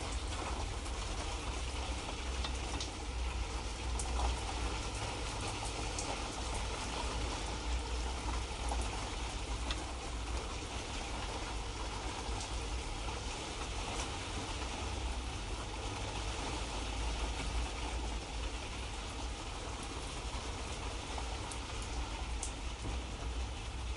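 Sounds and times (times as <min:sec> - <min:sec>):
light rain hissing: 0:00.0 - 0:23.9.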